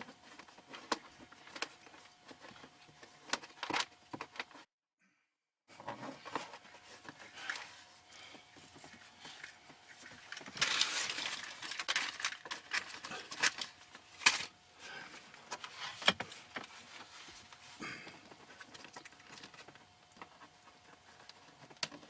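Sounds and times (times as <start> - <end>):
rustling and handling noises: 0.0 - 4.7, 5.7 - 22.0.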